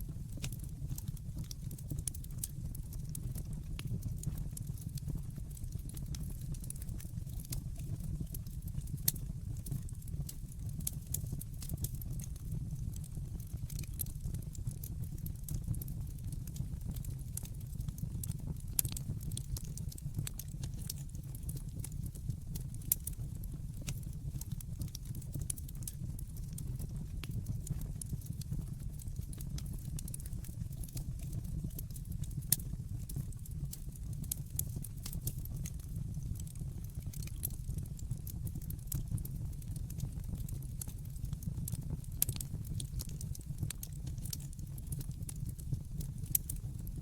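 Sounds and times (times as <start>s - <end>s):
fire crackling and popping: 0.0s - 47.0s
fire rumbling: 0.0s - 47.0s.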